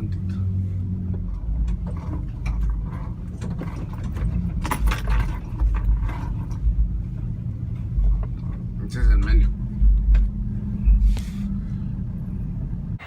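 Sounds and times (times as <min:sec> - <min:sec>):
road and engine rumble: 0:00.0 - 0:13.0
light rattling and clinking: 0:00.3 - 0:11.1.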